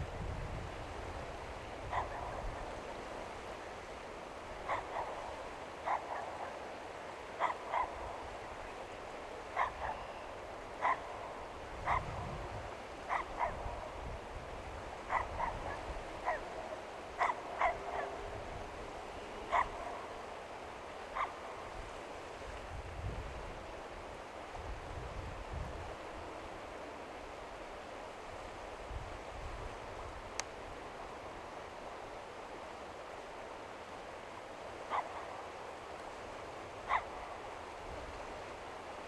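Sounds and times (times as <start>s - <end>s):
low wind rumble: 0.0s - 39.0s
steady outdoor hiss: 0.0s - 39.0s.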